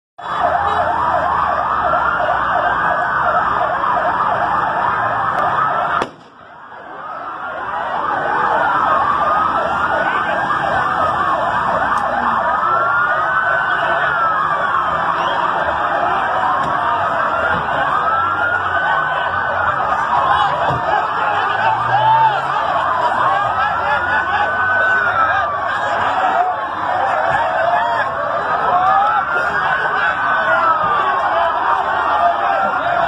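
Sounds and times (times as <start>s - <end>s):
siren fast yelp: 0.2s - 33.0s
siren rising and falling wails: 0.2s - 33.0s.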